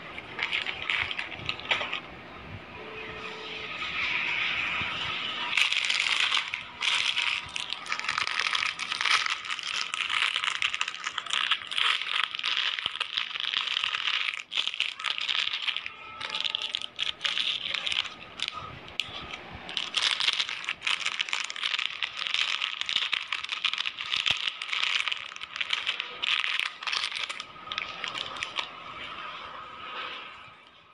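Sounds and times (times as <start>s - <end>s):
bubble wrap crinkling: 0.0s - 2.1s, 4.5s - 29.5s.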